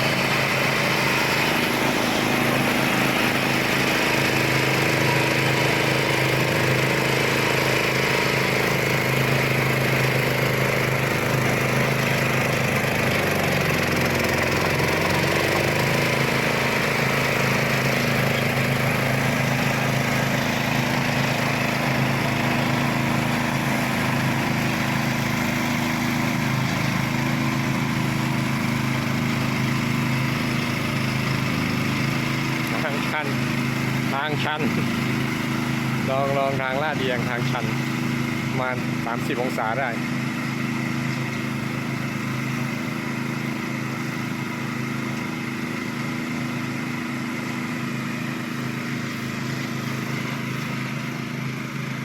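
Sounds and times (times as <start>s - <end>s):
ride-on lawn mower engine: 0.0s - 52.0s.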